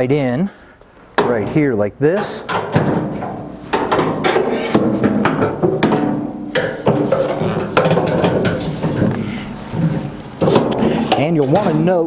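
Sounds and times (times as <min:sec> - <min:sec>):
metal knocking and clanking: 0:01.2 - 0:12.0.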